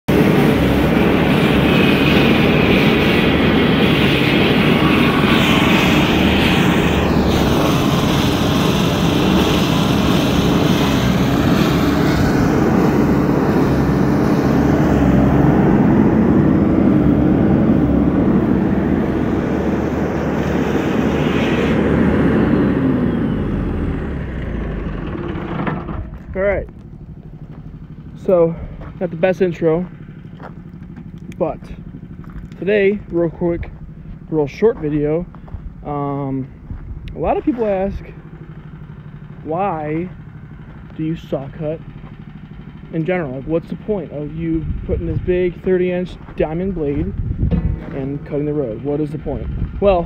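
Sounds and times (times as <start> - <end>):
floor saw engine running: 0.1 - 50.0.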